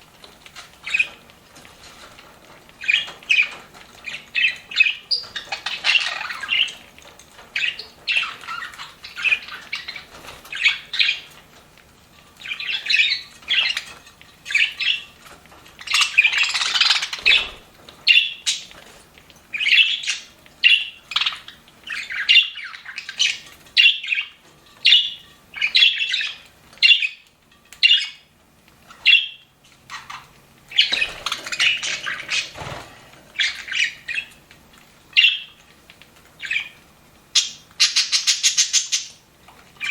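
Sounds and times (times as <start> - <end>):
budgerigars chirping and squawking: 0.5 - 1.2, 2.7 - 11.4, 12.4 - 28.3, 28.9 - 34.4, 35.1 - 35.6, 36.4 - 39.2.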